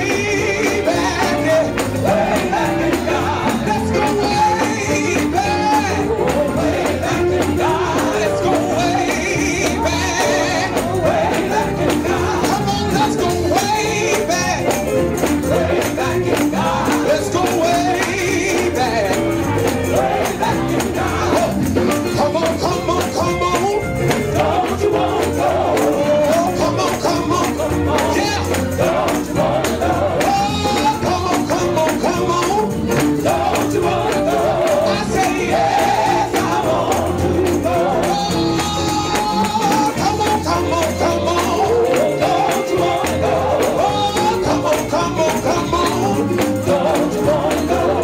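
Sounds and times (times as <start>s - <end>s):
tambourine shaken and struck: 0.0s - 48.0s
voices singing gospel chorus: 0.0s - 48.0s.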